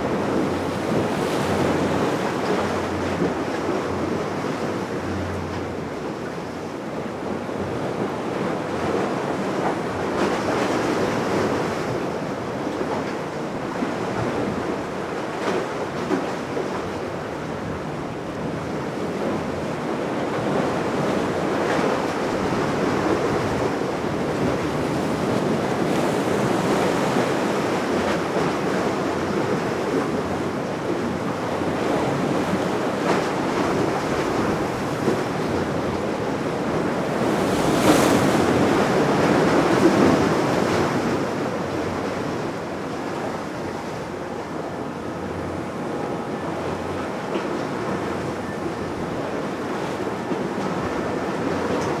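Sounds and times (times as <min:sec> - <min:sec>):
waves washing: 0:00.0 - 0:52.0.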